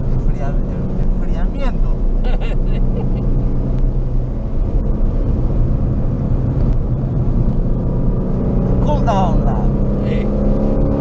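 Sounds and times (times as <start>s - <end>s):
car engine droning under load: 0.0s - 11.0s
road and wind noise: 0.0s - 11.0s.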